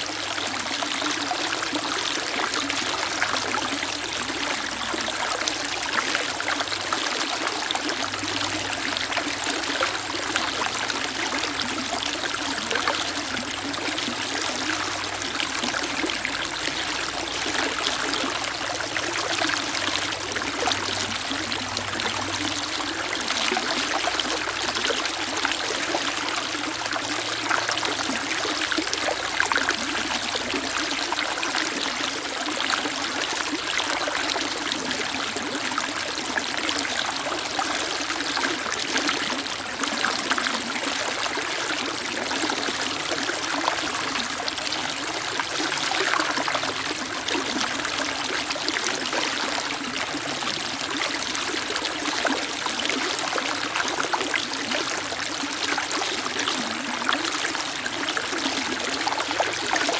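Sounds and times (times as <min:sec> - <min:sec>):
stream water running over rocks: 0:00.0 - 0:59.9.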